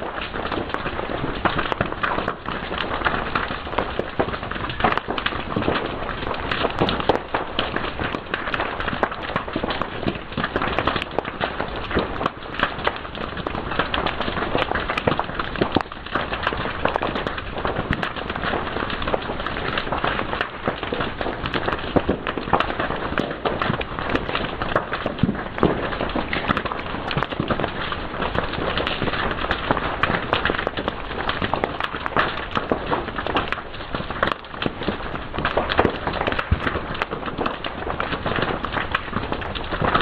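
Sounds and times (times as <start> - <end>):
fire crackling and popping: 0.0 - 40.0.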